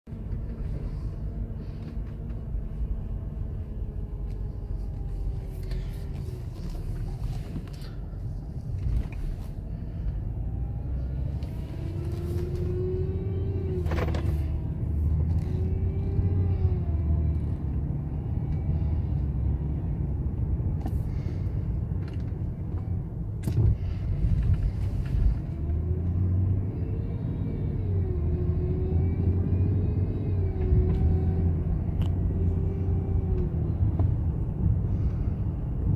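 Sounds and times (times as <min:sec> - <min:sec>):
car engine rumble: 0:00.0 - 0:35.9.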